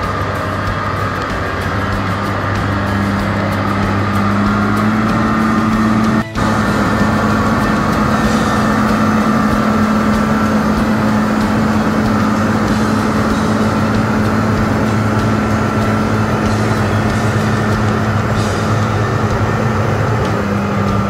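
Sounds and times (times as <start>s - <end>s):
diesel engine running: 0.0s - 21.0s
steady high whine: 0.0s - 21.0s.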